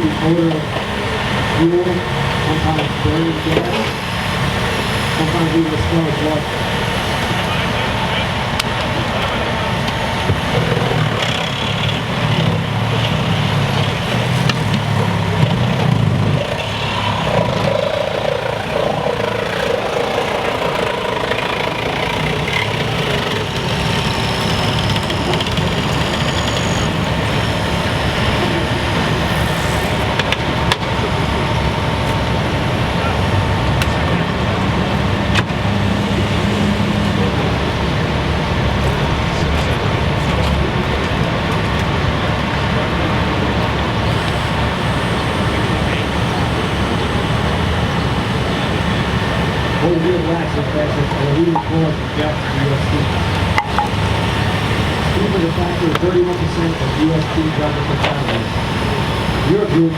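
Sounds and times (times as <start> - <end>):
faint voices: 0.0 - 59.9
vehicle engines running: 0.0 - 59.9.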